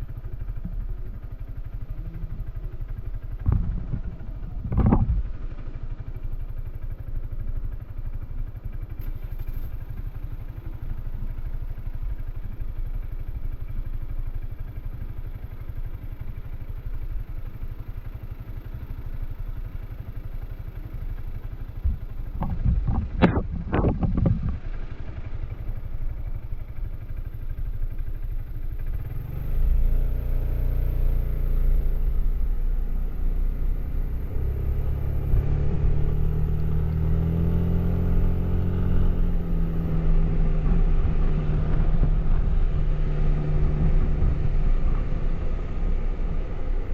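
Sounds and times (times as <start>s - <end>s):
scooter engine droning: 0.0s - 46.9s.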